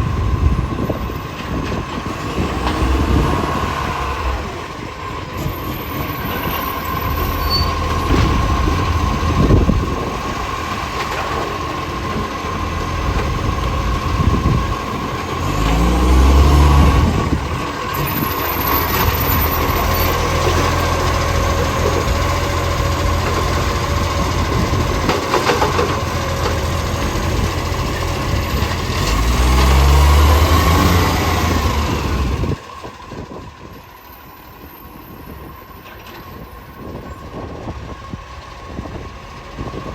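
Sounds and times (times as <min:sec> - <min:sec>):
diesel truck engine revving: 0:00.0 - 0:35.6.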